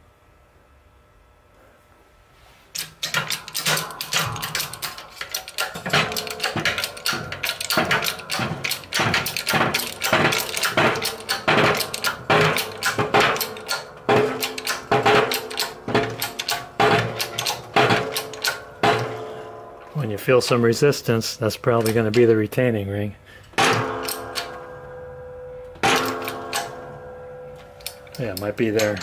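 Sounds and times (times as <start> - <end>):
hydraulic press pump clanks: 2.7 - 20.6, 21.7 - 22.4, 23.5 - 29.0.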